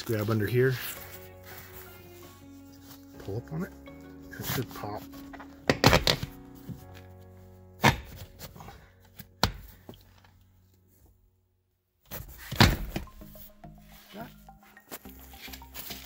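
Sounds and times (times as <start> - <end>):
background music: 0.0 - 11.4, 12.1 - 16.0.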